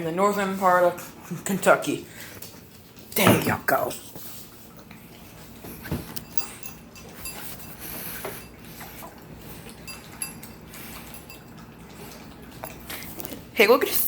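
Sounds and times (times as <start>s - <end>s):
dog lapping from a dish: 1.6s - 14.0s.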